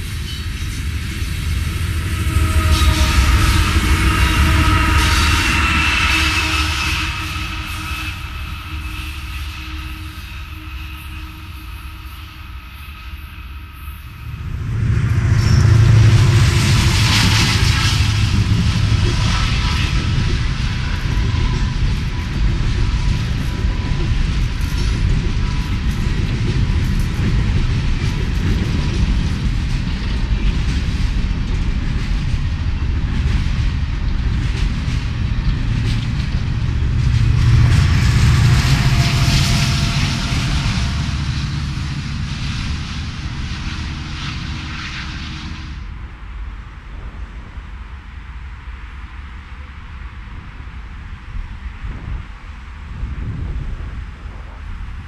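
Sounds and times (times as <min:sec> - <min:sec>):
train cars rumbling over bridge: 0:00.0 - 0:55.0.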